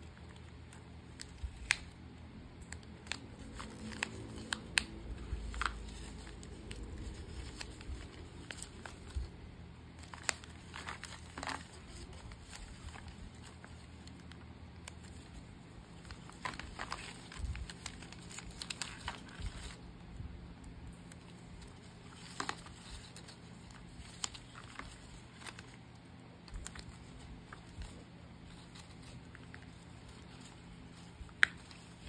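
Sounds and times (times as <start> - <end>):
packaging rustling and crinkling: 2.6 - 32.0.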